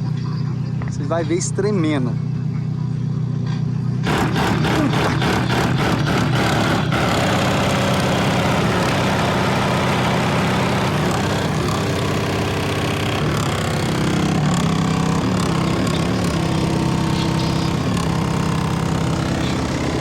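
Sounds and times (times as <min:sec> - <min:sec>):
distorted bass-heavy music: 0:00.0 - 0:20.0.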